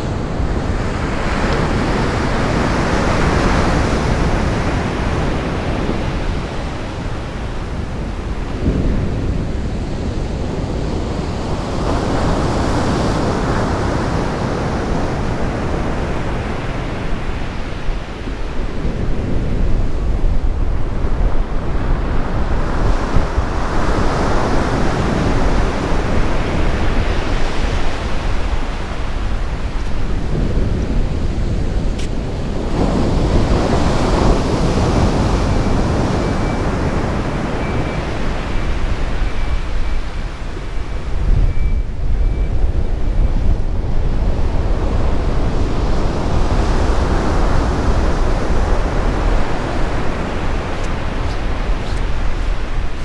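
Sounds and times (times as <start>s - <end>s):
sea waves breaking on shore: 0.0s - 41.7s, 43.2s - 53.0s
wind rumbling on microphone: 0.0s - 53.0s.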